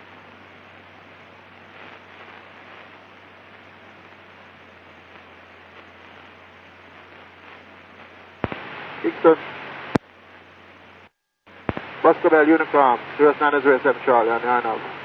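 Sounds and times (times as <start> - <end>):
low even hum: 0.0 - 15.0
static-like hiss: 0.0 - 15.0.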